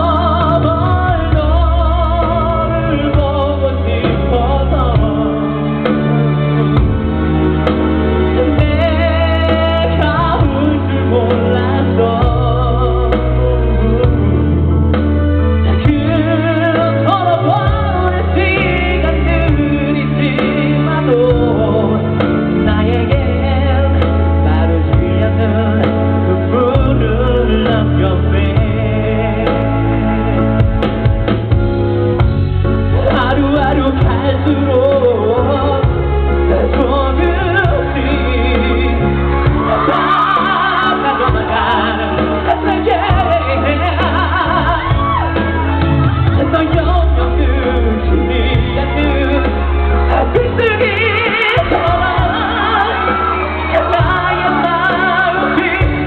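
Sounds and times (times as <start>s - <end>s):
person singing into a microphone: 0.0s - 30.8s, 32.8s - 56.0s
live band playing: 0.0s - 56.0s
steady bass: 0.0s - 56.0s.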